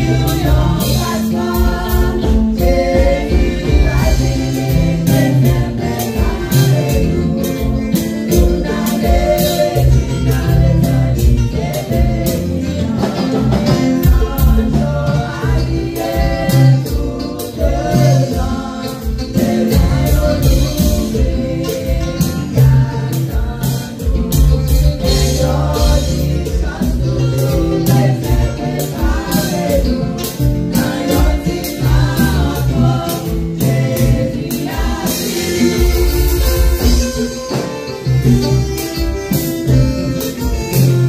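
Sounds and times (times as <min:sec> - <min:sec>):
women singing gospel song: 0:00.0 - 0:38.3
bass and beat accompaniment: 0:00.0 - 0:41.0.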